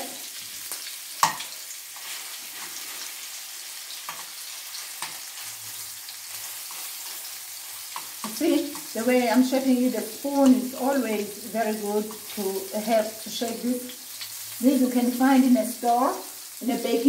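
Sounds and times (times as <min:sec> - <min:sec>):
patties sizzling in a frying pan: 0:00.0 - 0:17.0.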